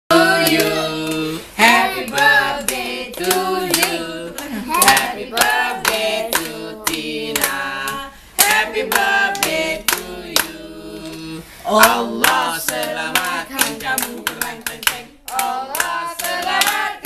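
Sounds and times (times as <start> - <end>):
group singing: 0.1 - 17.0
people clapping in time: 0.4 - 11.2, 11.8 - 17.0.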